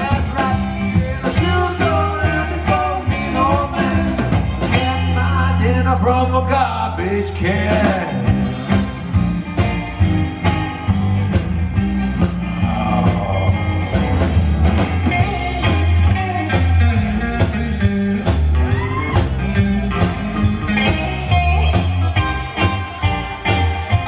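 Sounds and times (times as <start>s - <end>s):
drum kit steady beat: 0.0s - 24.0s
electric guitar lead lines: 0.0s - 24.0s
upright bass: 0.0s - 24.0s.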